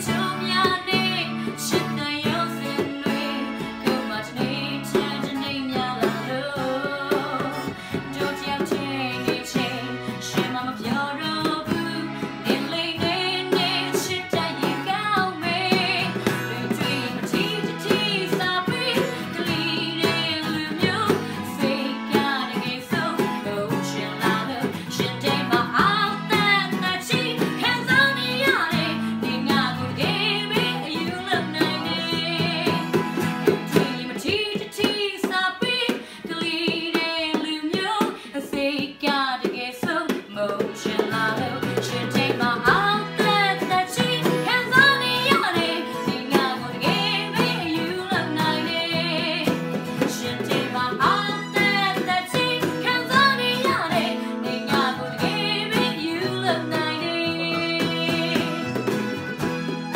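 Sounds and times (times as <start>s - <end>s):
keyboard: 0.0s - 39.0s, 40.1s - 59.9s
woman singing: 0.0s - 59.2s
hand-tapped box percussion: 0.0s - 59.9s
strummed acoustic guitar: 0.0s - 59.9s.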